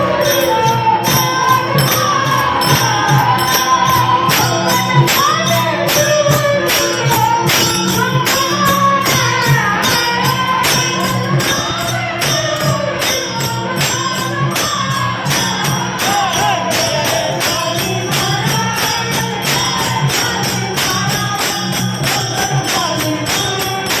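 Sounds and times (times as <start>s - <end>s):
metallic jingle strikes: 0.0s - 24.0s
person singing devotional melody: 0.0s - 24.0s.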